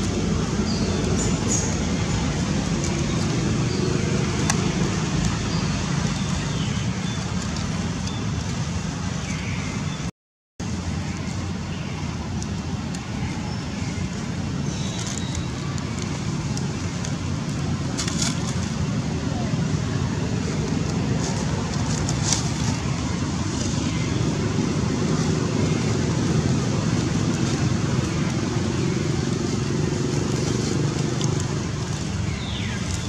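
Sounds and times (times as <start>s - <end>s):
low rumbling background noise: 0.0s - 33.0s.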